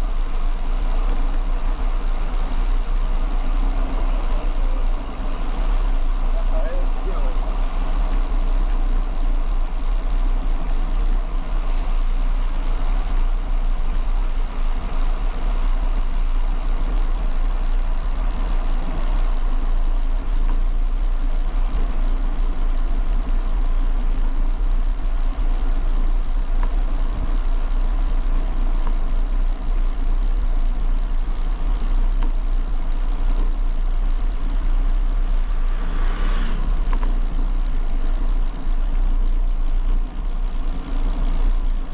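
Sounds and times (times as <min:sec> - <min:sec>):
bicycle tyre and road noise: 0:00.0 - 0:41.9
rush of higher noise: 0:00.0 - 0:41.9.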